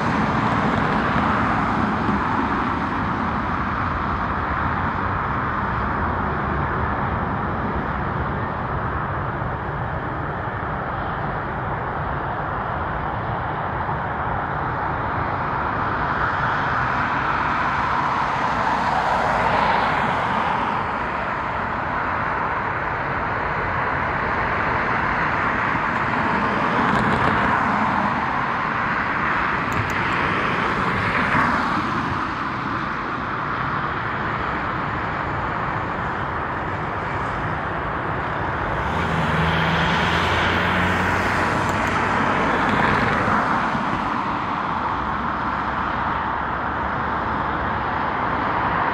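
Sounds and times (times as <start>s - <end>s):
low engine hum: 0.0s - 48.9s
vehicles passing: 0.0s - 48.9s.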